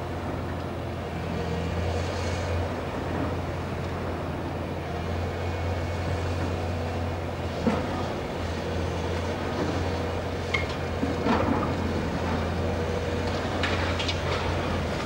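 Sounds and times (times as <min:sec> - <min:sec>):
excavator running: 0:00.0 - 0:15.0.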